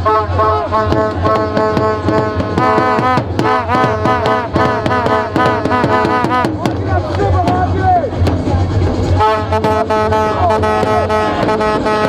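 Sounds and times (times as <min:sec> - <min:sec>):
music with fast drum beat: 0:00.7 - 0:12.0.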